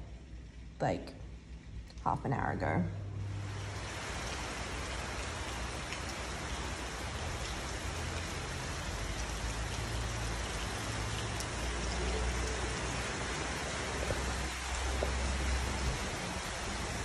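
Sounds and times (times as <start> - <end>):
rain falling on water: 0.0 - 17.0.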